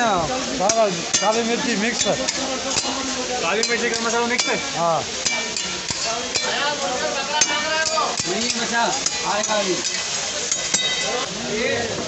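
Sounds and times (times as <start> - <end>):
light sizzle: 0.0 - 12.0
metal ladles scraping woks: 0.0 - 12.0
people talking: 0.0 - 12.0.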